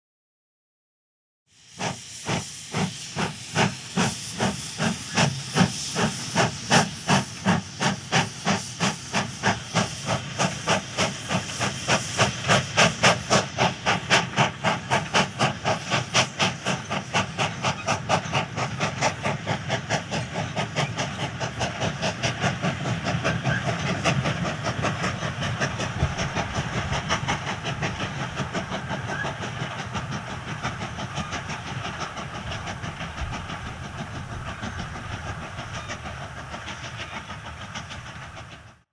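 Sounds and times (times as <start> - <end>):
steam locomotive chuffing: 1.5 - 38.9.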